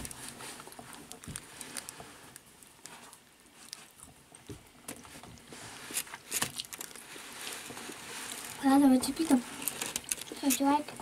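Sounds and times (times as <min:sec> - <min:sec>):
eating clicks and rustles: 0:00.0 - 0:11.0.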